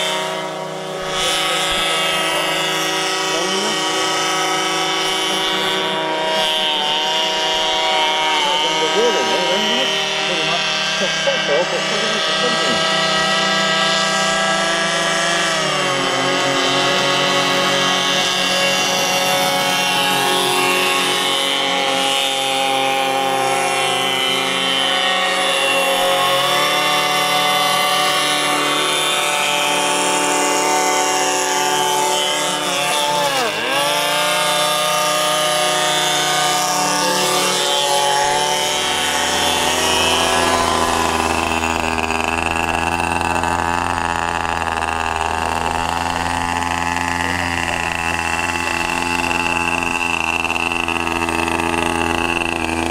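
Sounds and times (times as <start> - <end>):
model engine propeller buzz: 0.0 - 52.9.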